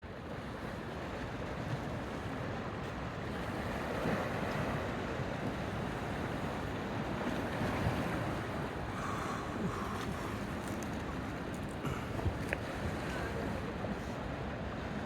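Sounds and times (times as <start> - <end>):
sea waves washing onto beach: 1.4 - 15.0.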